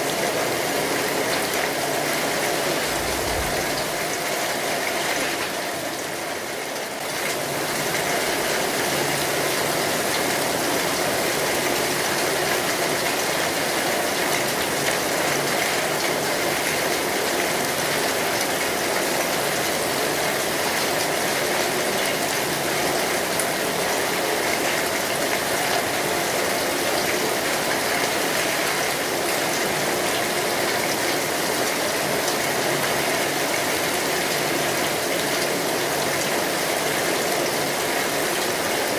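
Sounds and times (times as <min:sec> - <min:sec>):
rain on an umbrella: 0:00.0 - 0:38.9.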